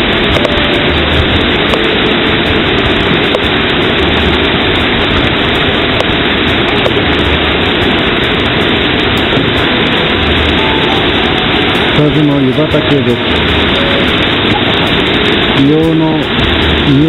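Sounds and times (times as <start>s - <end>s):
rush of falling water: 0.0s - 17.0s.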